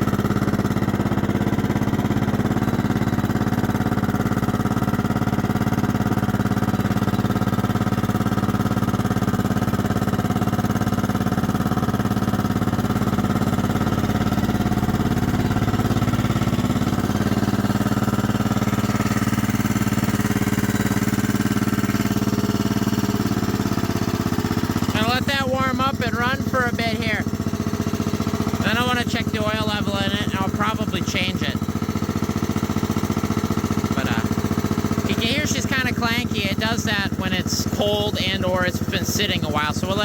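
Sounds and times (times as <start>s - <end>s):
clanky lawn mower engine idling: 0.0s - 40.0s.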